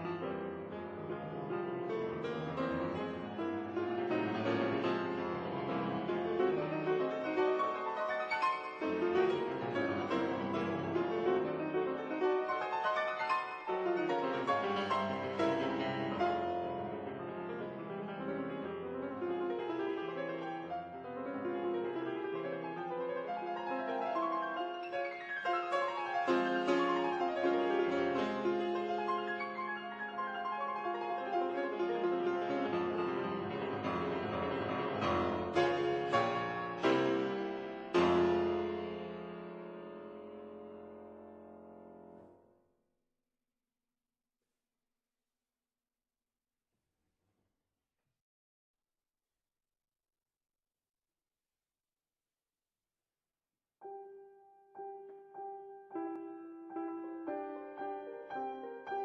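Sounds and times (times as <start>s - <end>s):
piano music: 0.0s - 42.4s, 53.8s - 59.0s.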